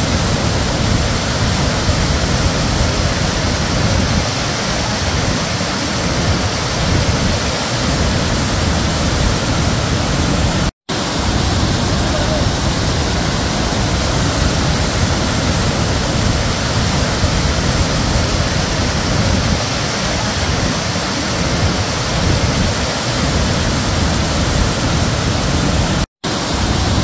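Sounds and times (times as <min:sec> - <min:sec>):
waterfall crashing: 0:00.0 - 0:27.0.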